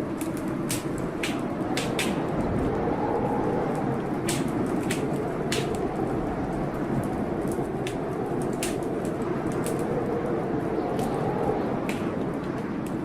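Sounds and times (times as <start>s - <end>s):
blizzard wind blowing: 0.0s - 13.0s
wood fire crackling and popping: 0.0s - 13.0s.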